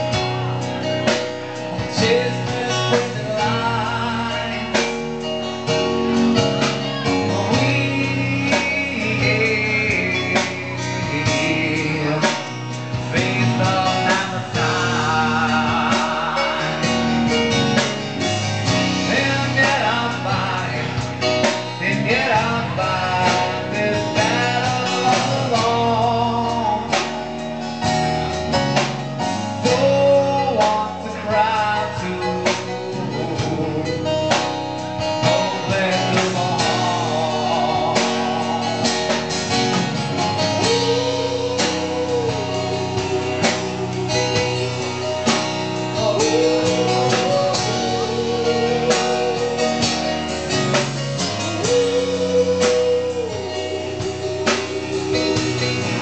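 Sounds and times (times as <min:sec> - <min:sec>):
live band playing: 0:00.0 - 0:56.0
person singing: 0:00.0 - 0:56.0.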